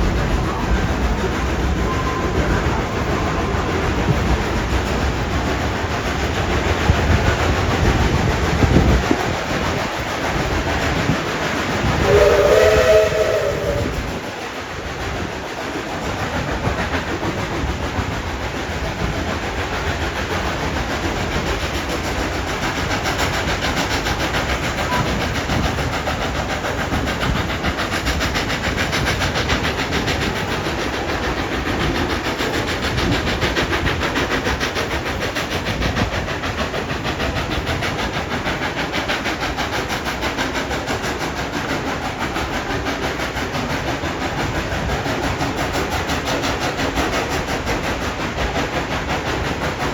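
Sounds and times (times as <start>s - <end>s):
steam hiss: 0.0s - 49.9s
train wheels clattering on rails: 0.0s - 49.9s.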